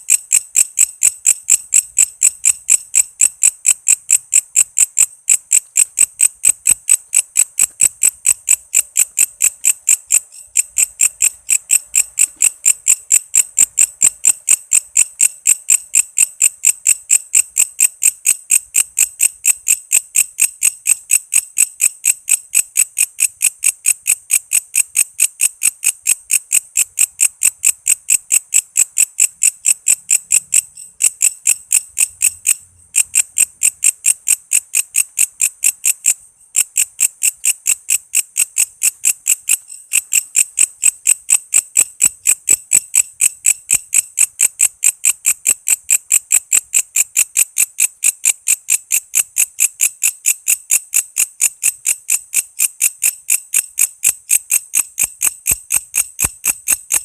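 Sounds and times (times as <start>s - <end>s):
insect chirping rapidly: 0.0s - 57.0s.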